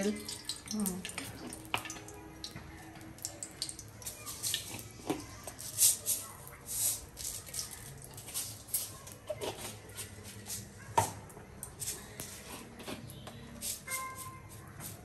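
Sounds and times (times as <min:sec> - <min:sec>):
oil crackling and spitting: 0:00.0 - 0:13.9.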